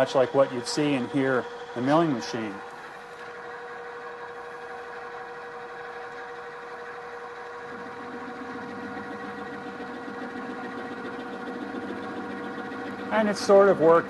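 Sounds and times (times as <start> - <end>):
drill press whine: 0.0 - 14.0.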